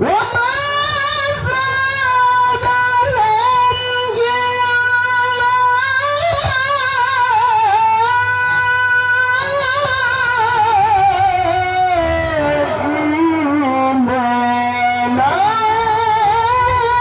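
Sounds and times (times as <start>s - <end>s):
man reciting melodically into microphone: 0.0s - 17.0s.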